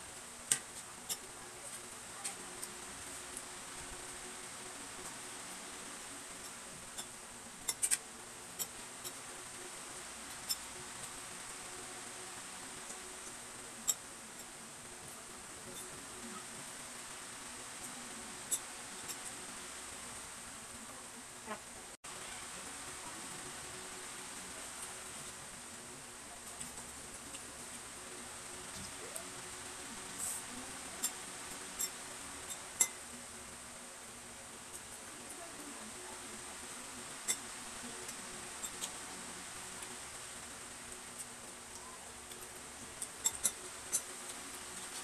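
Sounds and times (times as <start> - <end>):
faint steady hiss: 0.0 - 45.0
quiet eating: 0.0 - 45.0.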